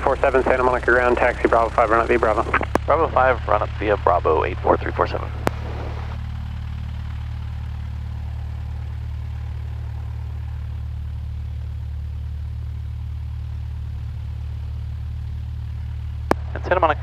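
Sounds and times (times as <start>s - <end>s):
airplane engine low drone: 0.0s - 17.0s.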